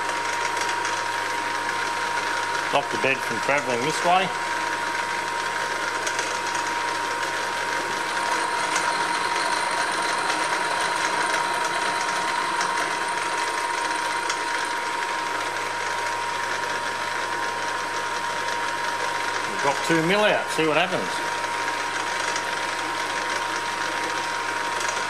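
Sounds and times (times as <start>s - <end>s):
milling machine whine: 0.0s - 25.0s.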